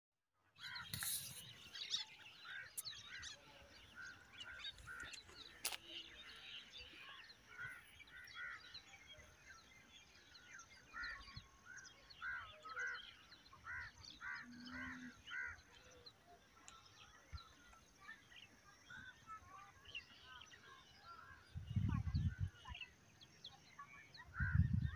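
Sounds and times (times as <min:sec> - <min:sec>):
birds chirping: 0:00.6 - 0:24.9.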